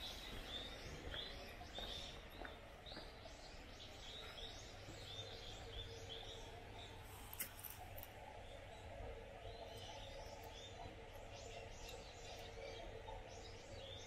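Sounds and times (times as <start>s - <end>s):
bird chirping: 0.0s - 14.0s
faint outdoor background noise: 0.0s - 14.0s.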